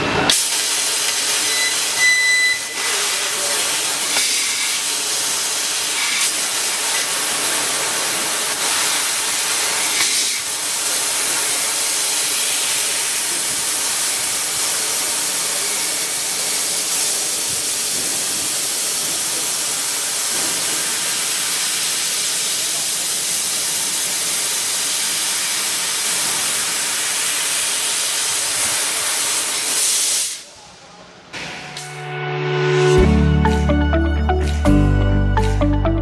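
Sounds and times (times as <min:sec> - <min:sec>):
laser cutter gas jet hissing: 0:00.3 - 0:30.4.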